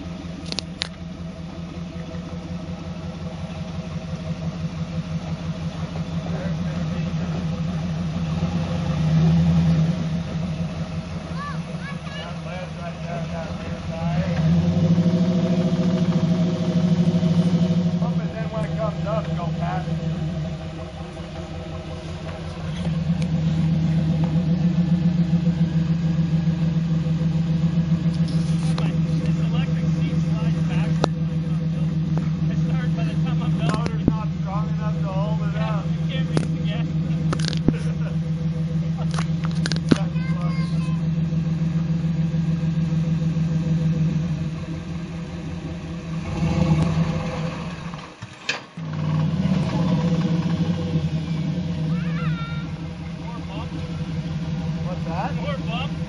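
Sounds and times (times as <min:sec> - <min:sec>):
engine running under load: 0:00.0 - 0:56.0.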